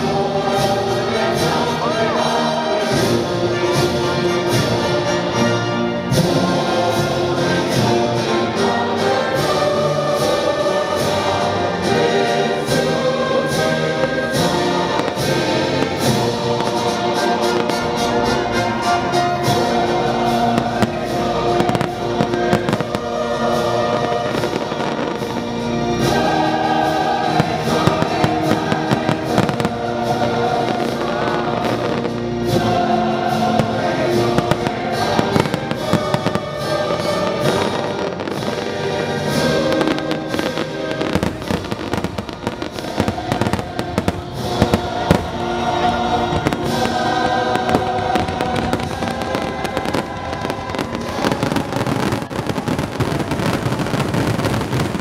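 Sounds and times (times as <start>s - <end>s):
fireworks bursting: 0.0s - 55.0s
music with choir singing: 0.0s - 55.0s.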